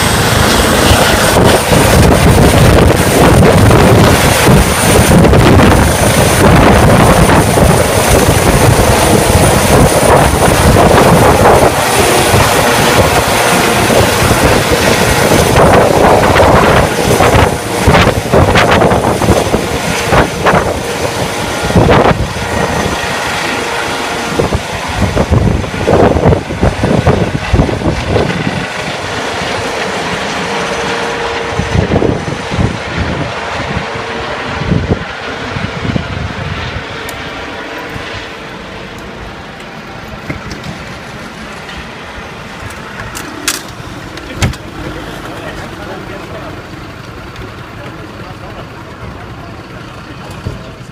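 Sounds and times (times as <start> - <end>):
helicopter rotor noise: 0.0 - 50.9
high turbine whine: 0.0 - 50.9.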